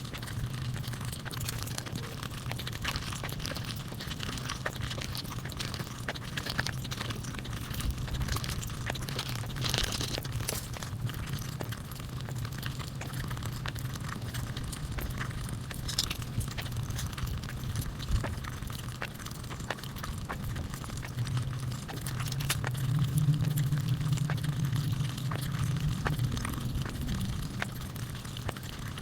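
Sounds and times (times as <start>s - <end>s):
crunching and chewing crisp food: 0.0s - 29.0s.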